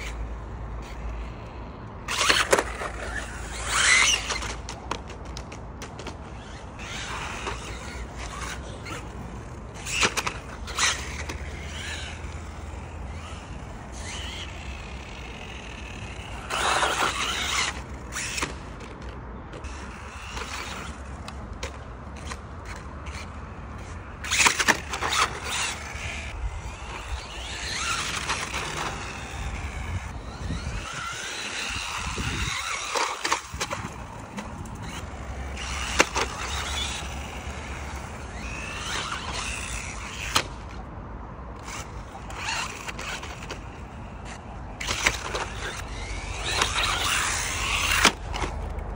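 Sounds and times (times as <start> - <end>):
toy rc car motor: 0.0 - 40.9, 41.5 - 48.9.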